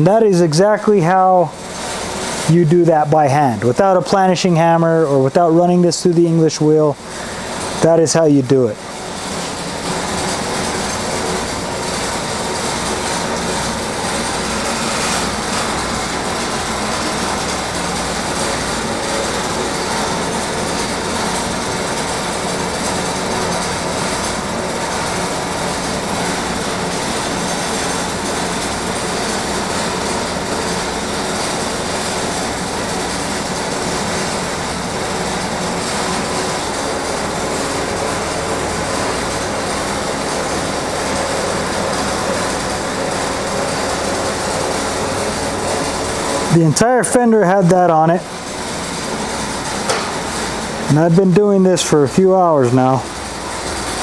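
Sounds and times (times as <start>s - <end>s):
machine running: 0.0s - 54.0s.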